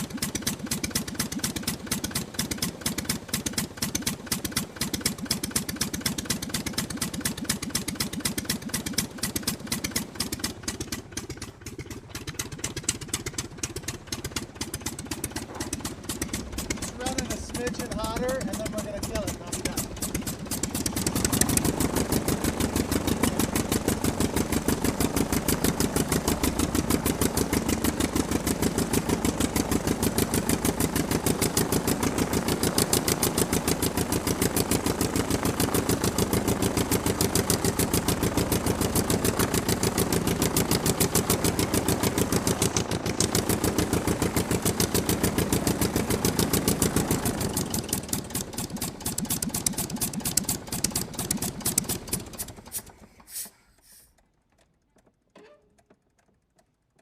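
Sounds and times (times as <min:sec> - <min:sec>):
aircraft piston engine running: 0:00.0 - 0:54.2.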